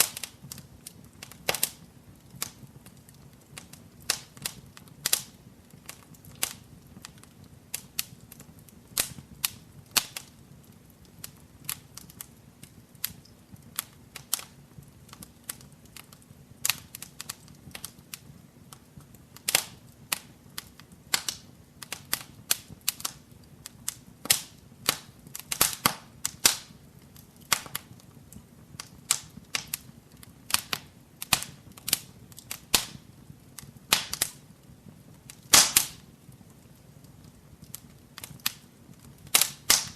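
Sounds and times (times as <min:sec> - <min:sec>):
low hiss of flames: 0:00.0 - 0:39.9
wood fire crackling and popping: 0:00.0 - 0:39.9.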